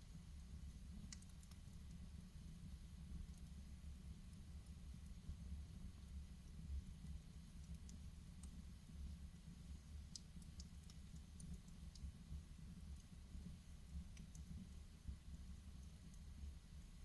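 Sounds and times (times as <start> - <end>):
wood fire crackling: 0.7 - 16.2.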